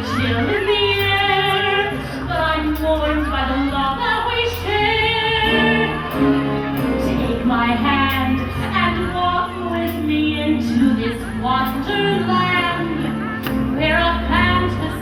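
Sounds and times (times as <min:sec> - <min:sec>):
band backing track: 0:00.0 - 0:15.0
woman singing over loudspeakers: 0:00.0 - 0:15.0.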